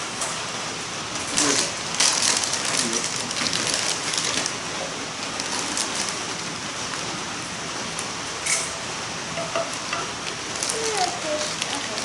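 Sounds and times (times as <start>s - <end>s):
rain falling: 0.5s - 12.0s.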